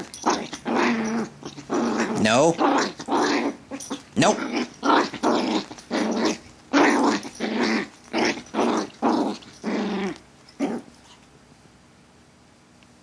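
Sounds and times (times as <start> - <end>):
puppy growling playfully: 0.0 - 11.2.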